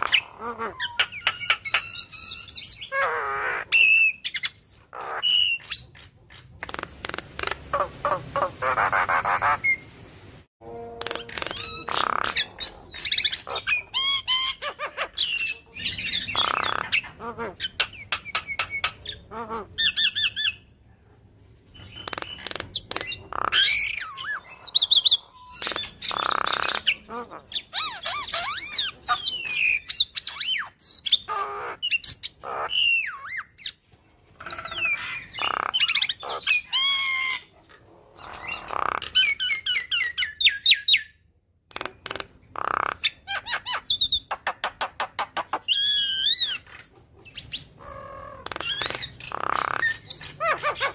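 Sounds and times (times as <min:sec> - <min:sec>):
myna bird singing: 0:00.0 - 0:09.9, 0:11.0 - 0:20.7, 0:21.7 - 0:33.8, 0:34.4 - 0:41.2, 0:41.8 - 0:50.9.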